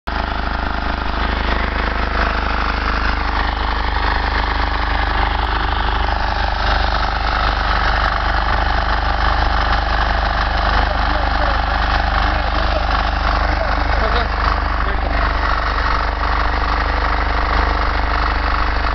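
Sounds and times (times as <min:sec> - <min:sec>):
small engine running steadily: 0:00.1 - 0:18.9.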